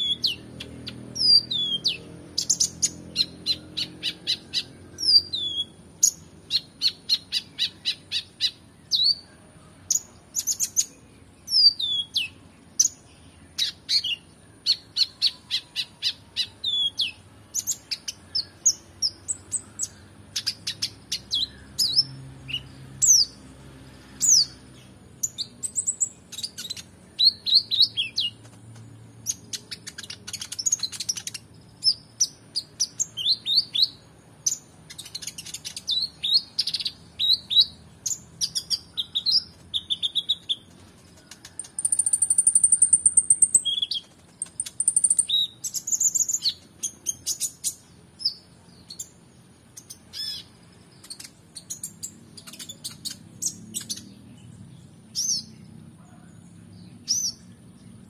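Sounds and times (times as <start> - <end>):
bird singing chirps and whistles: 0.0 - 9.3, 9.9 - 23.4, 25.2 - 28.4, 29.2 - 40.7, 41.5 - 49.1, 49.8 - 54.3.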